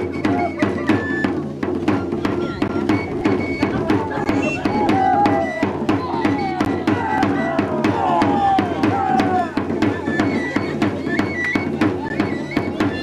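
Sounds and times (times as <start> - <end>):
crowd voices: 0.0 - 13.0
drum beating quickly: 0.0 - 13.0.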